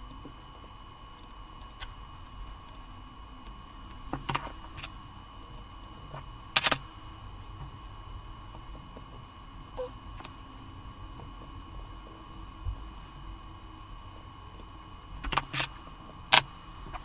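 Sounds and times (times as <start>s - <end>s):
faint high whine: 0.0s - 17.0s.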